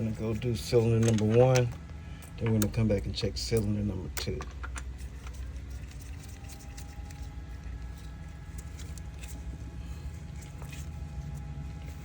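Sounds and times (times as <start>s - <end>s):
light clicks and handling noises: 0.0s - 12.0s
steady low hum: 0.0s - 12.0s.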